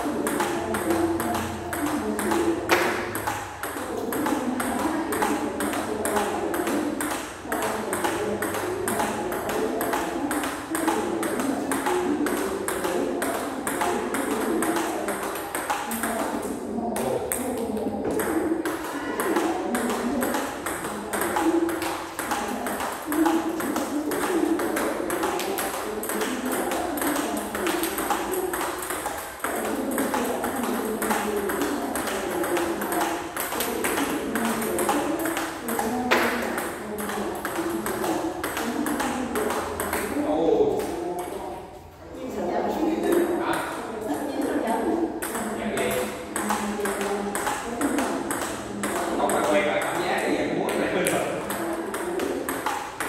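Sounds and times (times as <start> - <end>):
table tennis ball clicking: 0.1 - 40.2, 45.2 - 50.0, 50.7 - 53.0.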